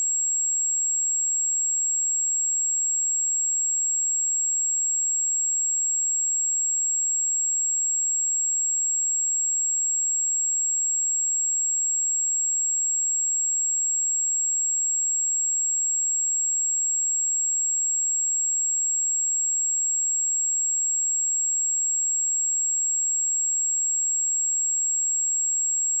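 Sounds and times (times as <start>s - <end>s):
sine wave test tone: 0.0s - 26.0s.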